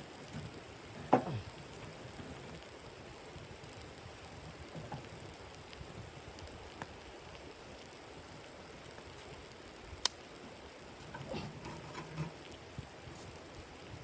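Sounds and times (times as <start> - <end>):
snow pattering on a tent: 0.0 - 14.0.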